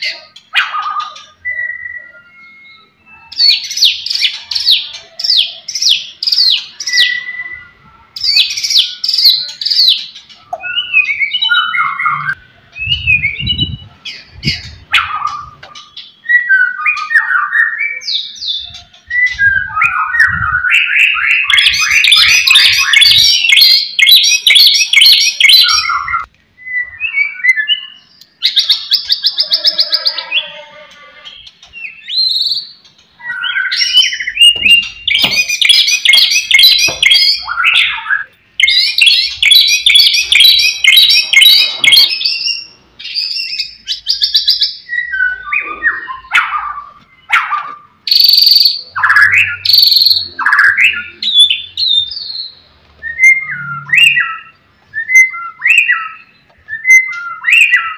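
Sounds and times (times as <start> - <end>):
bird singing: 0.0 - 57.9.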